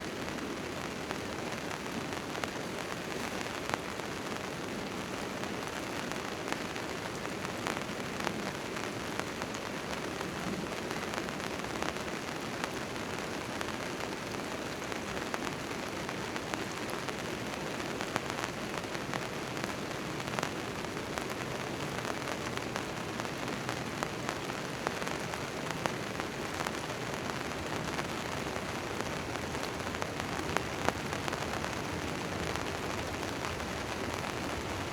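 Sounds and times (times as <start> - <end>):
rain on a tent tarp: 0.0 - 34.9.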